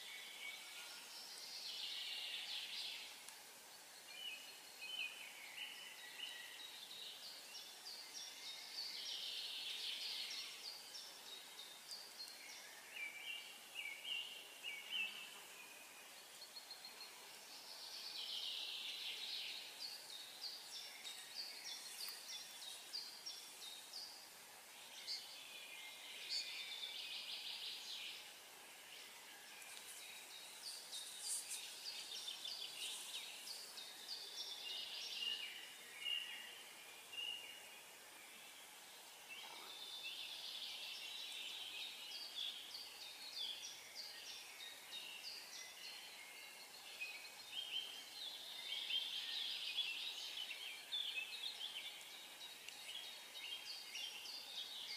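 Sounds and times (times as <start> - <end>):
faint outdoor hiss: 0.0 - 54.9
songbirds singing: 0.0 - 54.9.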